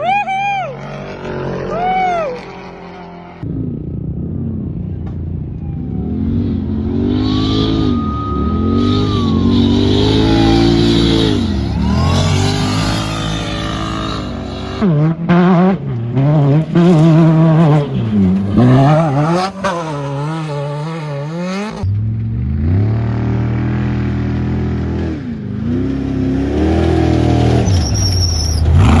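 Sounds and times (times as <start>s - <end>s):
race vehicle engine revving: 0.7s - 29.0s.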